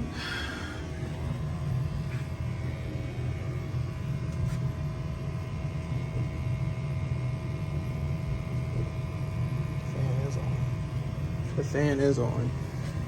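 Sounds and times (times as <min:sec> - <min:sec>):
furnace motor hum: 0:00.0 - 0:13.0
low rumble of furnace fan: 0:00.0 - 0:13.0.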